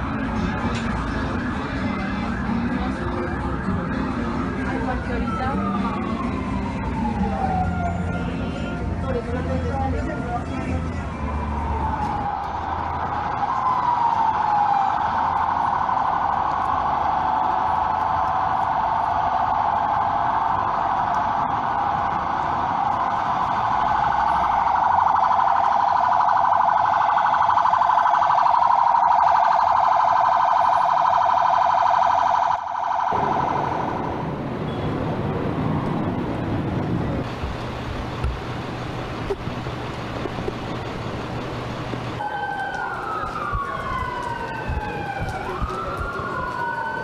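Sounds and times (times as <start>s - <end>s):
steady siren tone: 0.0s - 9.1s, 9.9s - 36.6s, 42.2s - 47.0s
traffic noise: 0.0s - 47.0s
wailing sirens: 0.0s - 47.0s.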